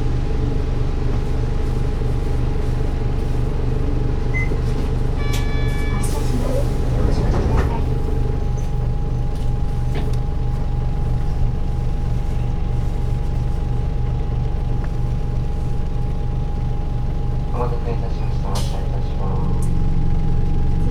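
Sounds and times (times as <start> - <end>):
diesel bus engine running: 0.0 - 20.9.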